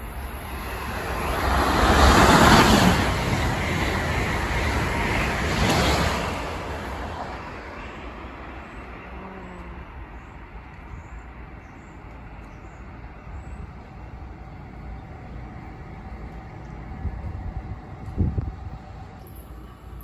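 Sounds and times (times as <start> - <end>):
train rumbling on tracks: 0.0 - 20.0.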